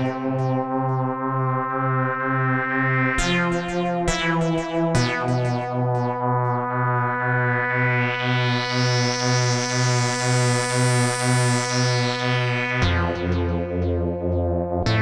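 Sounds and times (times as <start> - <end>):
synthesizer chord with filter sweep: 0.0 - 15.0.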